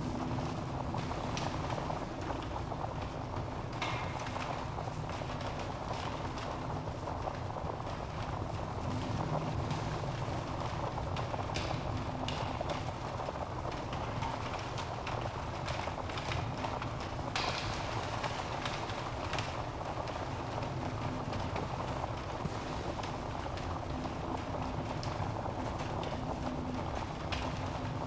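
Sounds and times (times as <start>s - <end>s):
fire flames rumbling: 0.0s - 28.0s
logs crackling and popping: 0.1s - 28.0s.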